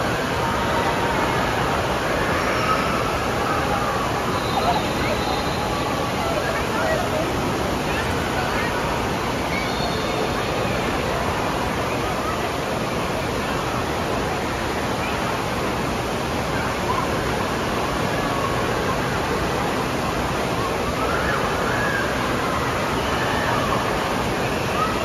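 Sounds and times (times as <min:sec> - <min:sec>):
water rushing down water slide: 0:00.0 - 0:25.0.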